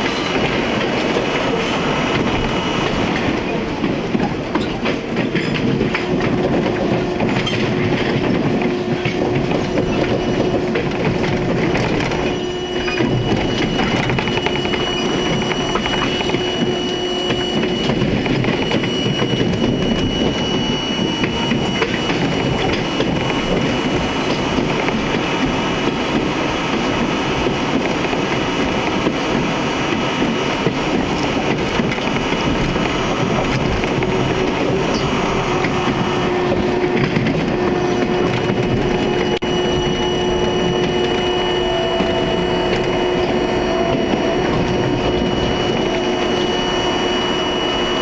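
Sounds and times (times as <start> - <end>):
subway wheels rumbling on rail: 0.0 - 48.0.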